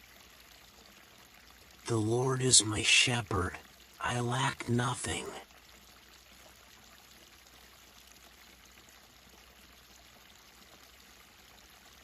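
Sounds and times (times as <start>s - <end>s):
running water babbling: 0.0s - 12.0s.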